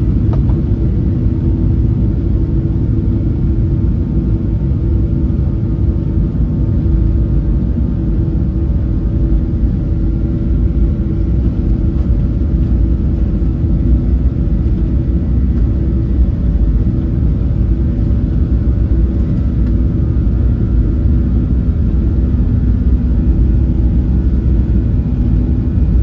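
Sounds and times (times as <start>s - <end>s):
jet engine rumble in cabin: 0.0s - 26.0s.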